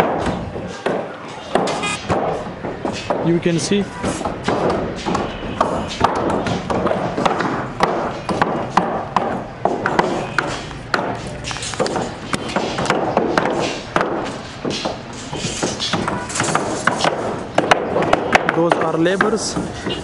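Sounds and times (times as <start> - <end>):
construction site din: 0.0 - 20.0.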